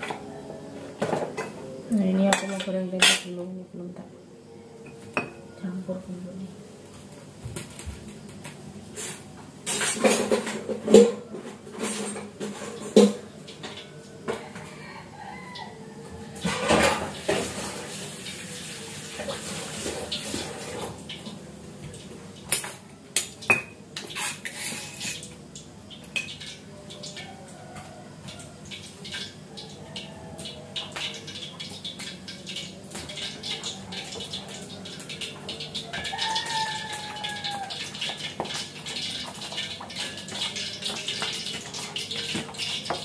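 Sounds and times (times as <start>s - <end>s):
dishes and utensils clattering: 0.0s - 3.5s, 4.8s - 5.6s, 9.0s - 14.8s, 15.6s - 43.0s.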